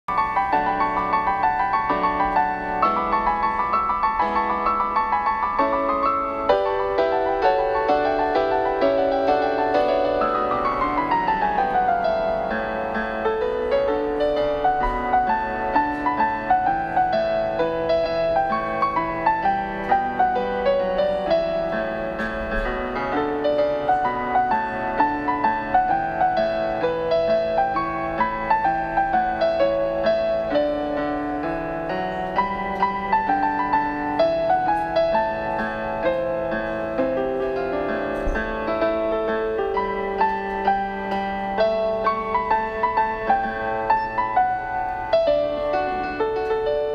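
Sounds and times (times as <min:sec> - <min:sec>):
light piano music: 0:00.0 - 0:46.9.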